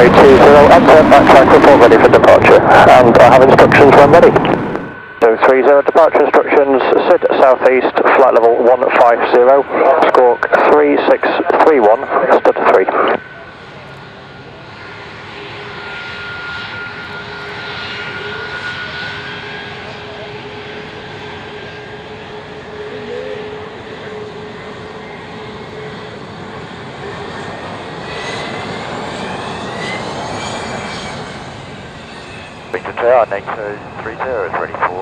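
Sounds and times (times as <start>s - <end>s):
aircraft engines running: 0.0s - 35.0s.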